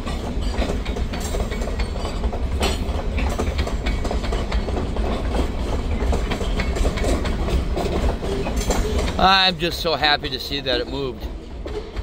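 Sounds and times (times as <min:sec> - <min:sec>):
freight train rumble: 0:00.0 - 0:12.0
train wheels clacking on rails: 0:00.0 - 0:12.0.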